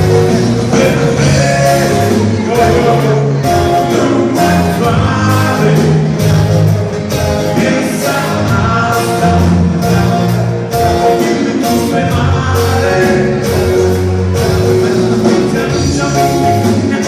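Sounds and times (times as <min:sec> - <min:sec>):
band playing a song: 0:00.0 - 0:17.0
person singing: 0:00.0 - 0:17.0.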